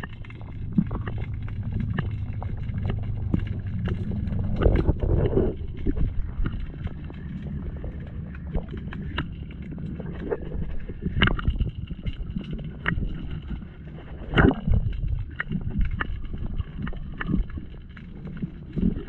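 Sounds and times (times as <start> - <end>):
underwater clicks and knocks: 0.0 - 19.0
underwater rumble of moving water: 0.0 - 19.0.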